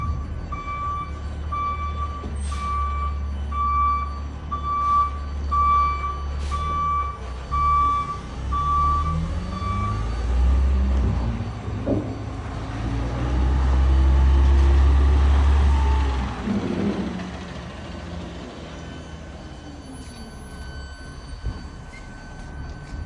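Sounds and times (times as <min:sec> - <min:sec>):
reversing alarm beeping: 0:00.0 - 0:16.4, 0:17.2 - 0:23.0
diesel engine running: 0:03.3 - 0:23.0.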